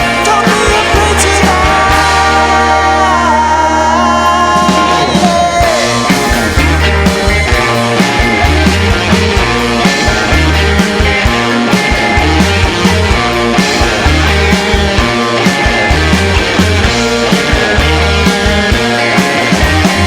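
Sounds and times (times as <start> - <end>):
bass guitar: 0.0 - 20.0
distorted electric guitars: 0.0 - 20.0
drums playing a steady beat: 0.0 - 20.0.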